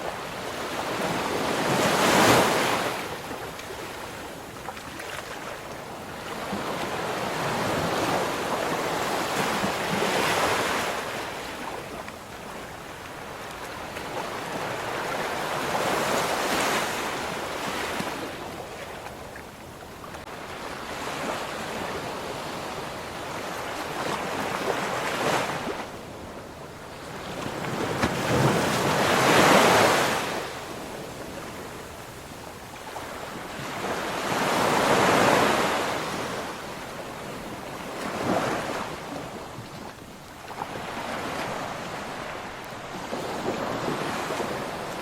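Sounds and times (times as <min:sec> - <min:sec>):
ocean waves breaking on shore: 0:00.0 - 0:45.0.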